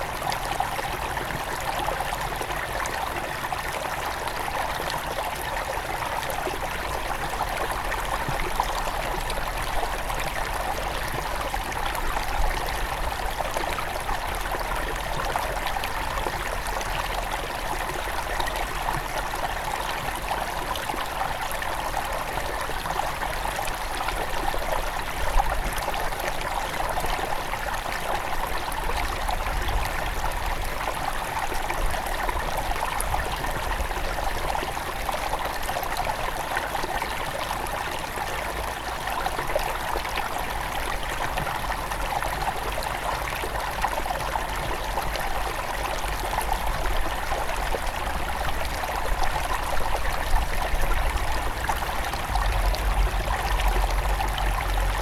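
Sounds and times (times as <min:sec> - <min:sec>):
river babbling over stones: 0:00.0 - 0:55.0.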